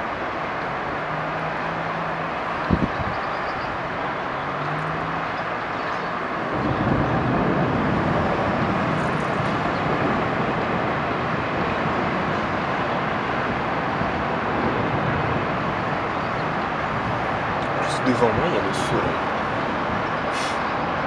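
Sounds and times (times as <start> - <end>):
city traffic hum: 0.0 - 21.0.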